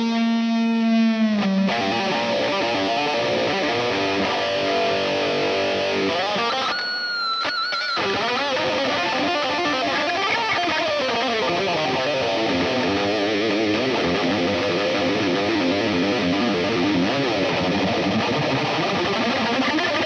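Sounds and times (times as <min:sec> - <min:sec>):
death metal band playing: 0:00.5 - 0:06.6, 0:07.9 - 0:20.0.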